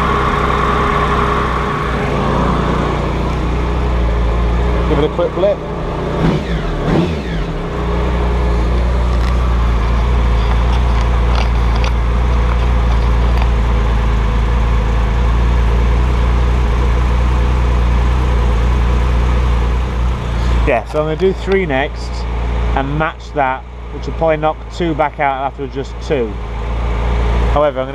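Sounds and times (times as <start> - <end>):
motorcycle engine revving and idling: 0.0 - 27.9.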